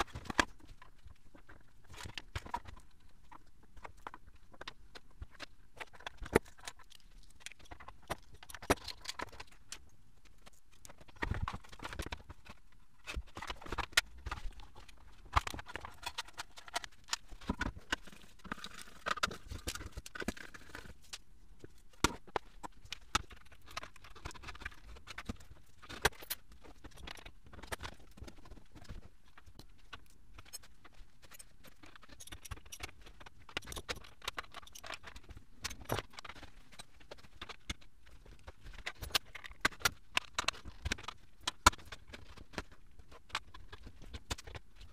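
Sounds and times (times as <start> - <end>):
plastic and metal parts clicking: 0.0 - 44.9.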